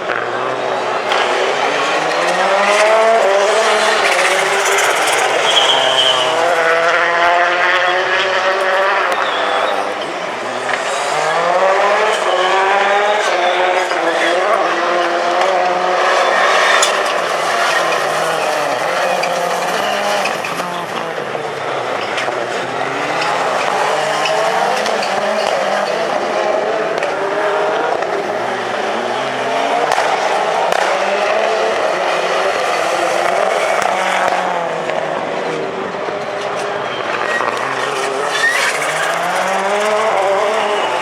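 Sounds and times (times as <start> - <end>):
racing car engines revving: 0.0 - 41.0.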